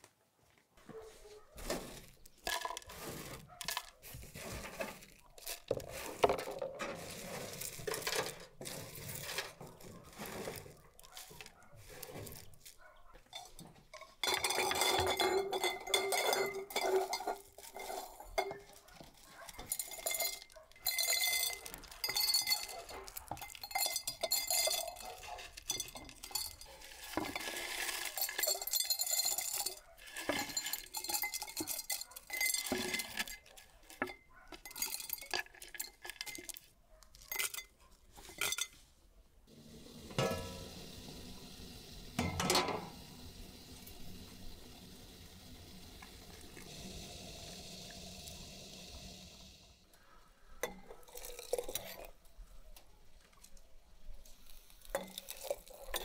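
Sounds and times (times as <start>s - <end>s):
dried fruit clattering into jars: 1.0s - 38.8s, 39.5s - 56.0s
glass jars clinking on stone: 1.8s - 38.8s, 40.1s - 49.0s, 50.6s - 52.2s, 54.8s - 56.0s.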